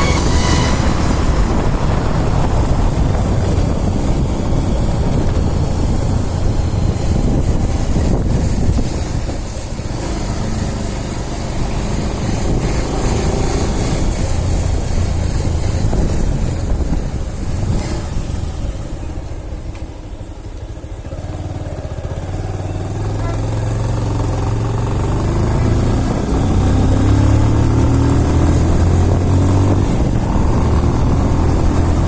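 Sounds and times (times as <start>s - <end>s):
motorcycle engine running: 0.0s - 32.0s
road noise: 0.0s - 32.0s
wind hiss: 0.0s - 32.0s.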